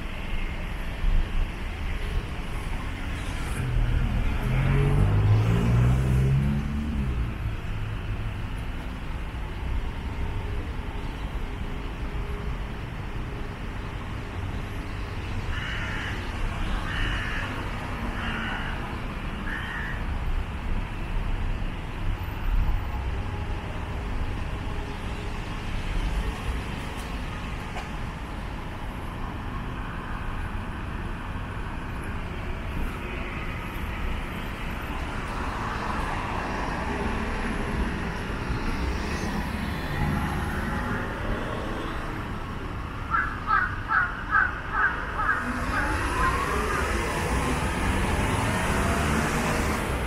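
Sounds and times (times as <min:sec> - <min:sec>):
road traffic hum: 0:00.0 - 0:50.0.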